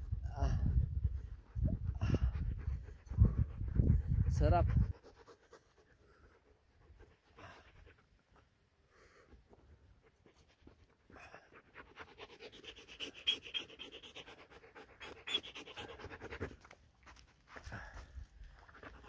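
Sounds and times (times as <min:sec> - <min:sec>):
dog panting: 0:00.6 - 0:19.0.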